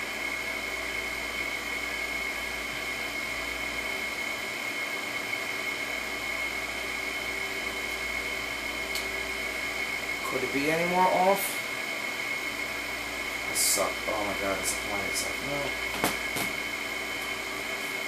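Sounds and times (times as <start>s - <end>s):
high-pitched machine whine: 0.0s - 18.0s
machine whirring hiss: 0.0s - 18.0s.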